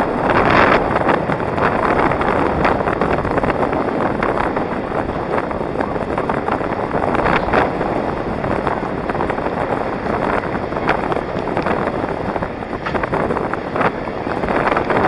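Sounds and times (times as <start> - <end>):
skate wheels rolling on asphalt: 0.0 - 15.0
wind buffeting microphone: 0.0 - 15.0.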